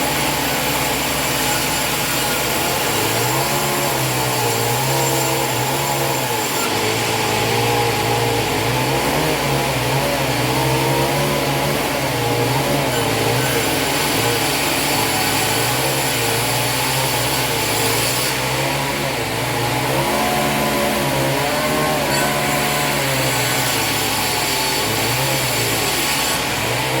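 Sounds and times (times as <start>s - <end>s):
sawmill engine running: 0.0s - 27.0s.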